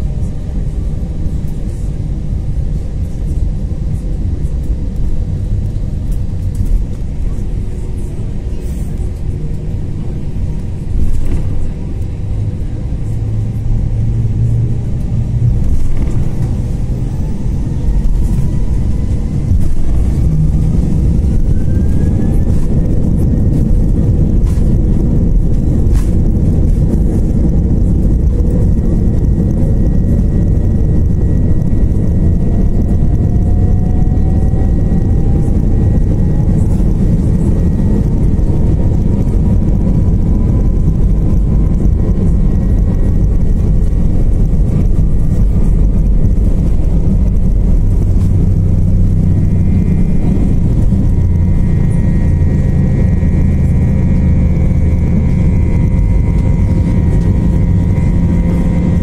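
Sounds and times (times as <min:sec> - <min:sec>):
jet engines rumbling: 0:00.0 - 0:59.0
rising engine whine: 0:00.0 - 0:59.0.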